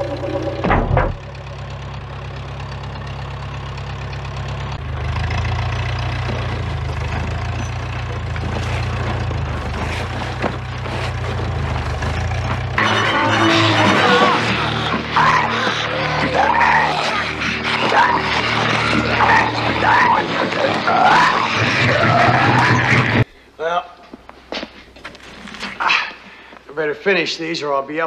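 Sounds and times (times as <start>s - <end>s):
engine humming steadily: 0.0s - 23.3s.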